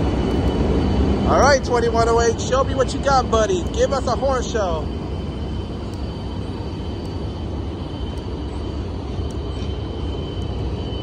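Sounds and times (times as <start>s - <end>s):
diesel engine rumbling: 0.0s - 11.0s
high-pitched whine: 0.0s - 11.0s.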